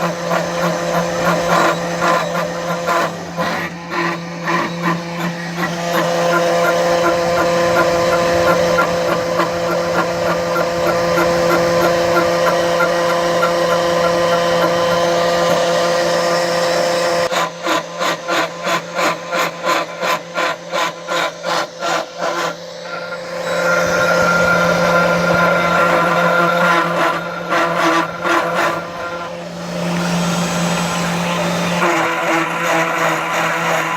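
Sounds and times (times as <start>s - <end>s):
machine pulsing: 0.0s - 33.9s
milling machine whine: 0.0s - 33.9s.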